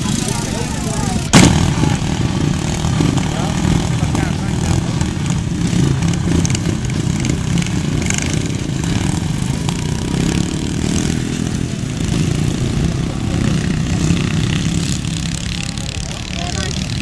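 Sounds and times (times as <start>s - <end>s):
lawn tractor engines racing: 0.0s - 17.0s.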